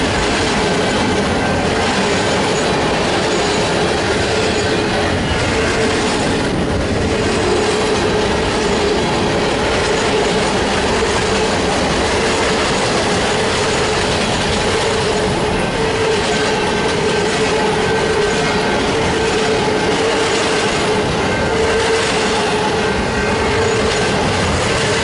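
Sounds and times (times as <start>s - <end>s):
freight train wheels clattering: 0.0s - 25.0s.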